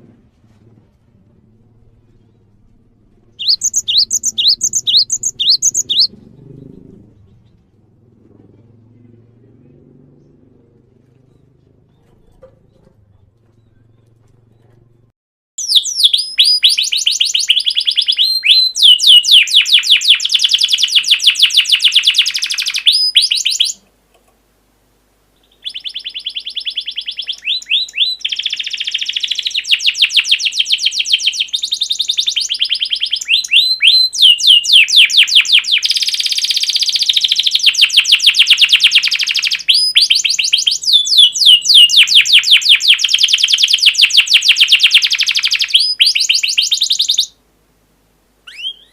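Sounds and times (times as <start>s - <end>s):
songbird chirping trills: 3.4s - 7.7s, 10.1s - 23.8s, 25.3s - 47.4s, 48.4s - 48.9s.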